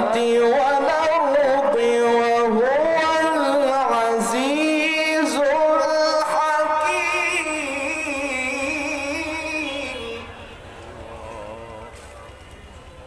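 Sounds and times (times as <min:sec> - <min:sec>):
man reciting melodically: 0:00.0 - 0:12.1.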